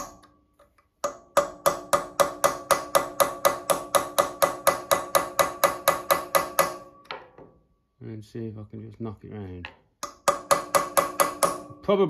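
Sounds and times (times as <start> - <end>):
hammer striking steel tool: 0.0 - 7.6, 9.7 - 11.9.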